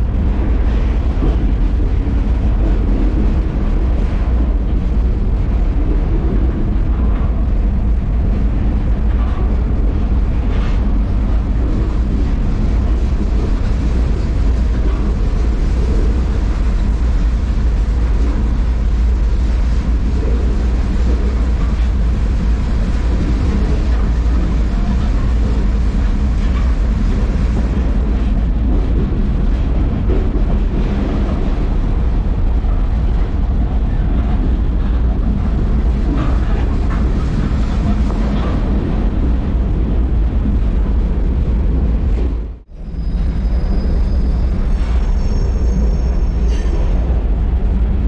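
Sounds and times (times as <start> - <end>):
rumble of rolling railcar: 0.0 - 48.0.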